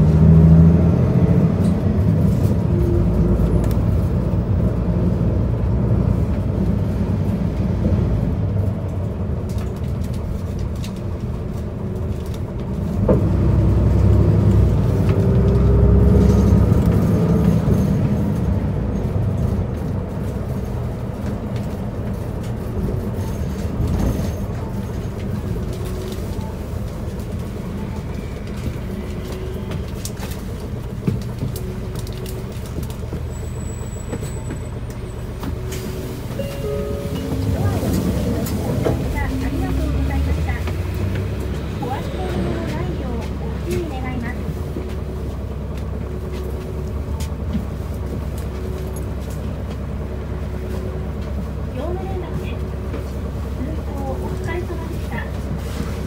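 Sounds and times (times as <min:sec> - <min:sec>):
bus engine: 0:00.0 - 0:56.0
road noise: 0:00.0 - 0:56.0.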